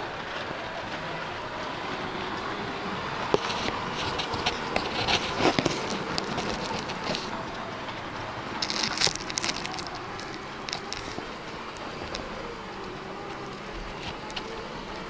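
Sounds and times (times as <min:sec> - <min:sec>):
model train rolling rumble: 0:00.0 - 0:15.0
track clicks and rattles: 0:00.0 - 0:15.0.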